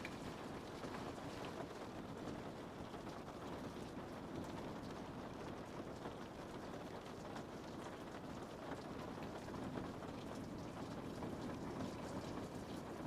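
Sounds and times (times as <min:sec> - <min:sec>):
rain on a window: 0:00.0 - 0:13.0.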